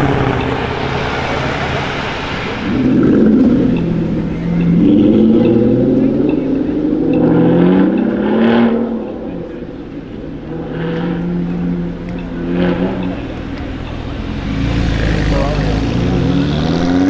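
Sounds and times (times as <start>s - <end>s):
sports car engine accelerating: 0.0s - 17.0s.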